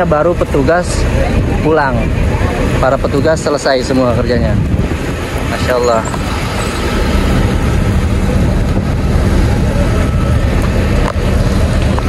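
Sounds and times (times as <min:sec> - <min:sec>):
coach engines idling: 0:00.0 - 0:12.0.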